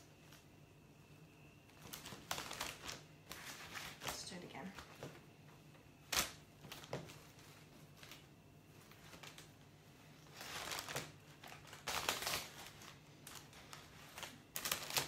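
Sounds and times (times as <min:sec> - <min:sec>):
cellophane and ribbon crinkling: 0:01.7 - 0:05.2, 0:06.0 - 0:15.0.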